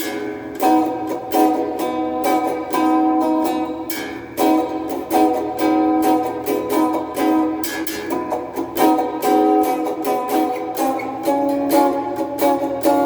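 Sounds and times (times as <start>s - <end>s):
clean electric guitar strumming: 0.0s - 13.0s.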